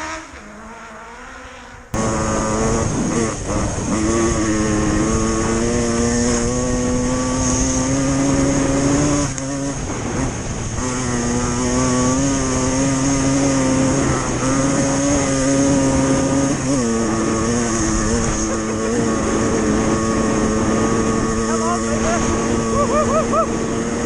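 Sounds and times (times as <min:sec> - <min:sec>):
motorcycle engine running under load: 0:01.9 - 0:24.0.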